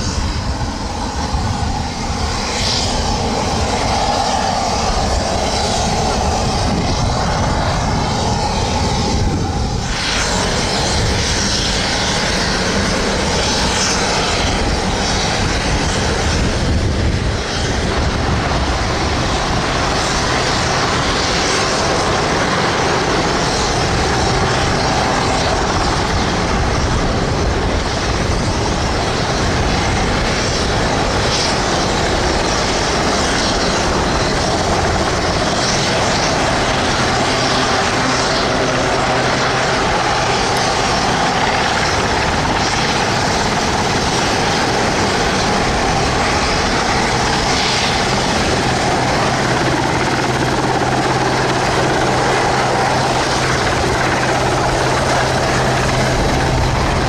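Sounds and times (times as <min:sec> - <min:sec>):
helicopter hovering: 0:00.0 - 0:57.0.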